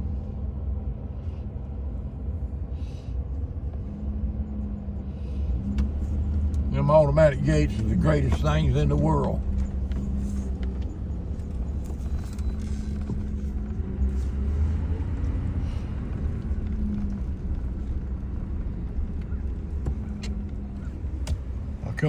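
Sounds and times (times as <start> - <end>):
constant low hum: 0.0 - 22.0
vehicle engine rumble from inside: 0.0 - 22.0.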